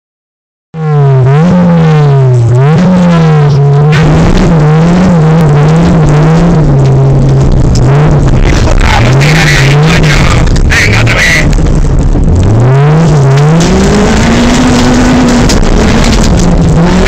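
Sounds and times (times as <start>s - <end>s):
car engine revving hard: 0.8s - 17.0s
rushing noise: 1.2s - 17.0s.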